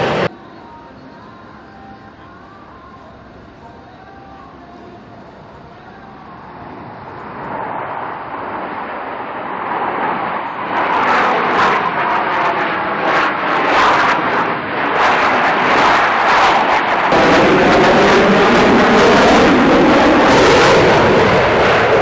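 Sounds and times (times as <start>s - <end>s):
aircraft engine flyby: 0.0s - 22.0s.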